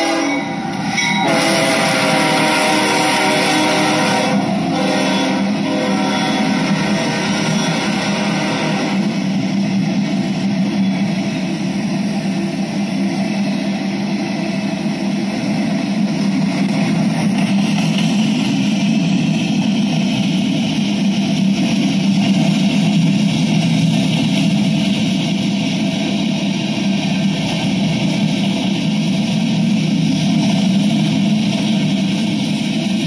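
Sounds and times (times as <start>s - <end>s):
freight train wheels rumbling on rail: 0.0s - 33.0s.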